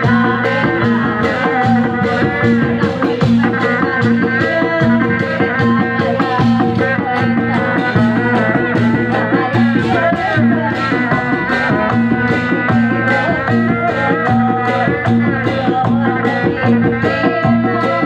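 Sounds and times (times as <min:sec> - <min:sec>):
fast percussion rattle: 0:00.0 - 0:18.0
sustained melody line: 0:00.0 - 0:18.0.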